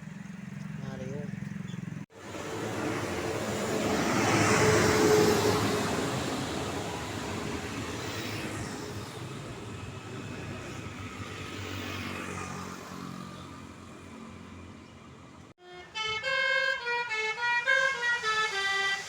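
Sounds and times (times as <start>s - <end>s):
vehicle passing at speed: 0.0s - 15.4s
traffic: 0.0s - 19.0s.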